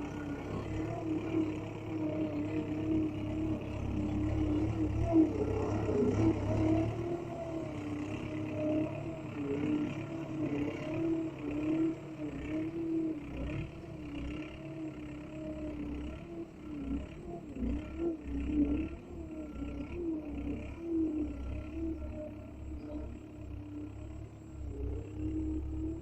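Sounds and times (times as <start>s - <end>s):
small motor whining: 0.0s - 26.0s.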